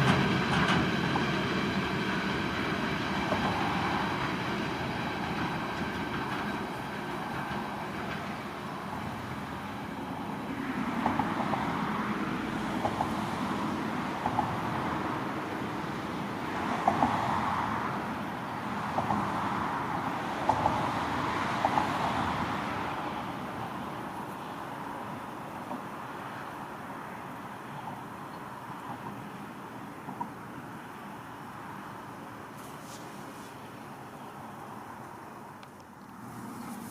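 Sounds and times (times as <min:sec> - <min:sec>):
wheels clicking over rail joints: 0:00.0 - 0:31.2
train rolling along track: 0:00.0 - 0:36.9.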